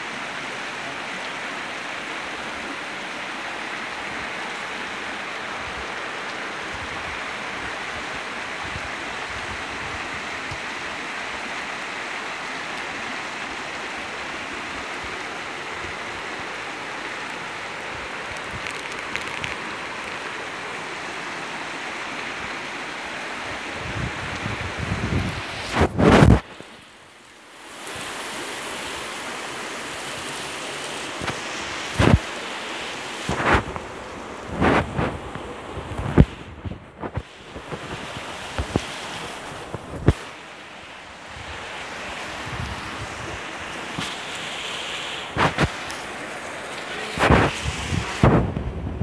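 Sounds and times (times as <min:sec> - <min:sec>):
floodwater rushing: 0:00.0 - 0:49.0
rain falling: 0:00.0 - 0:49.0.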